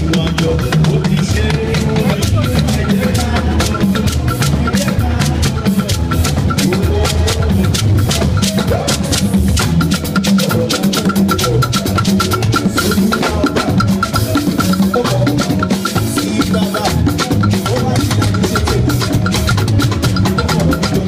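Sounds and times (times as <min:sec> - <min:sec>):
conga drums: 0:00.0 - 0:21.0
drum kit with cymbals: 0:00.0 - 0:21.0.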